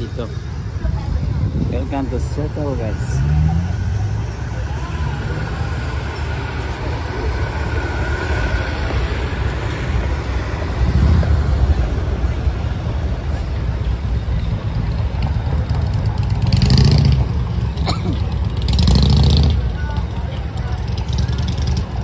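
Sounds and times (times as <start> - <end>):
loud vehicles passing: 0.0 - 22.0
rumble of road traffic: 0.0 - 22.0.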